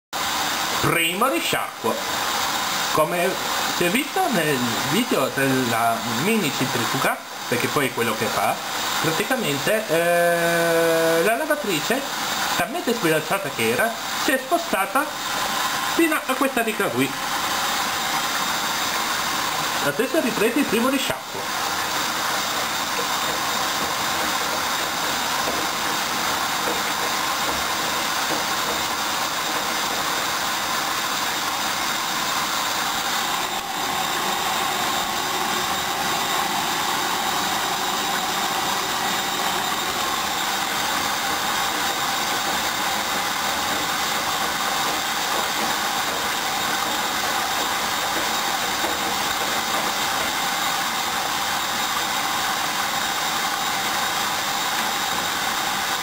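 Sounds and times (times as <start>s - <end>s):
washing machine running: 0.1s - 56.0s.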